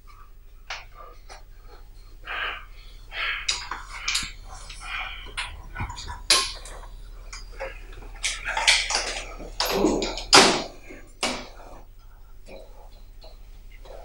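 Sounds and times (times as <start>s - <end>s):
objects rustling and clattering: 0.0s - 14.0s.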